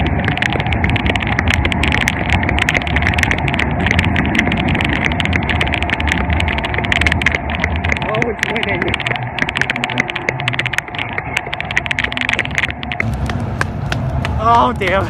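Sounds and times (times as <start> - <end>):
running footfalls: 0.0 - 15.0
steady low rumble: 0.0 - 15.0.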